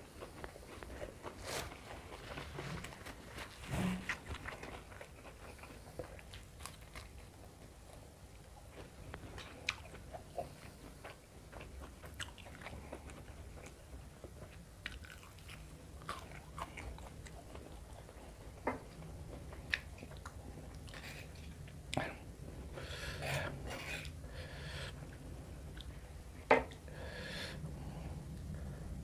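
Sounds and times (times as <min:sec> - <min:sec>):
person chewing food: 0:00.0 - 0:27.3.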